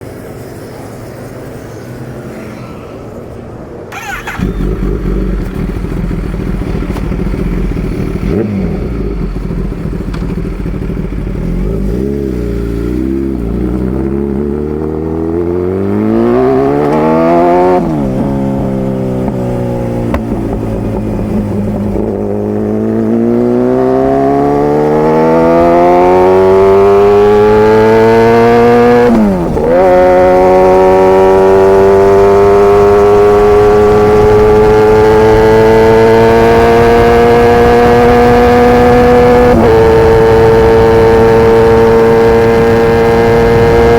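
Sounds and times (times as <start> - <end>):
motorcycle engine accelerating: 3.9 - 43.9.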